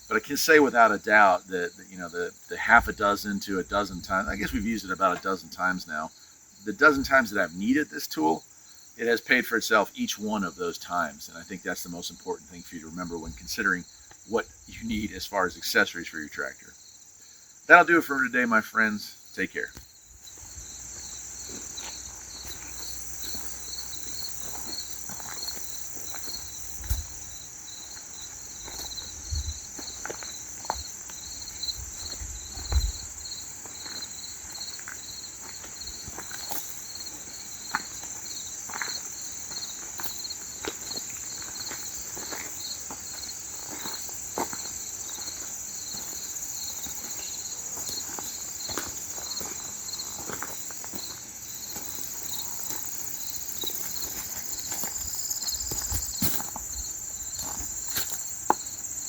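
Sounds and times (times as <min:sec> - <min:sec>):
crickets chirping: 0:00.0 - 0:59.0
high insect hum: 0:00.0 - 0:59.0.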